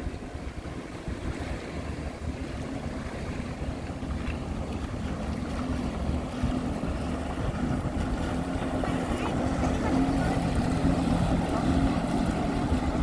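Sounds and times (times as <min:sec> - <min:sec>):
jet ski engine running: 0:00.0 - 0:13.0
water spray and wake splashing: 0:00.0 - 0:13.0
wind buffeting microphone: 0:00.0 - 0:13.0.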